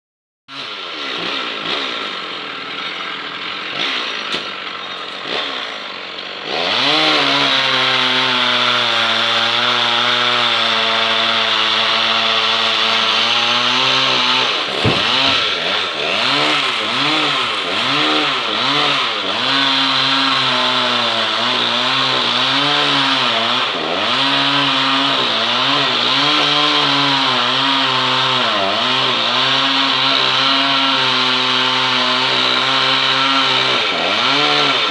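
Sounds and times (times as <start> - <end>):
chainsaw cutting into a tree: 0.5 - 34.9.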